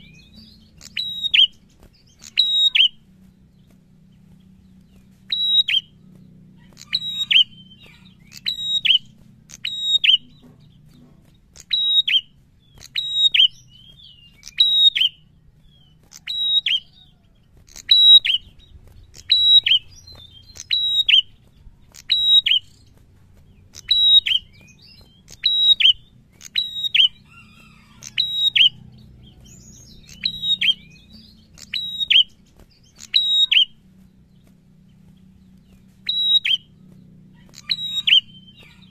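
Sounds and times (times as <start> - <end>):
songbird calling: 0.0 - 38.9.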